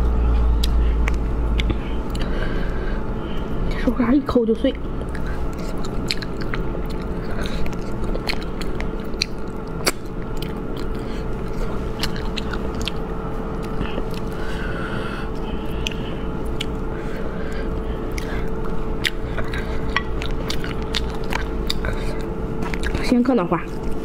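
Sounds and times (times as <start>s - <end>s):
chewing and sucking: 0.6s - 3.8s, 4.9s - 23.1s.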